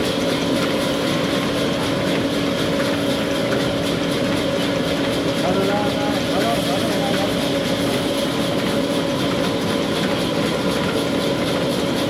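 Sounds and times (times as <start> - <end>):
sawmill machinery drone: 0.0 - 12.0.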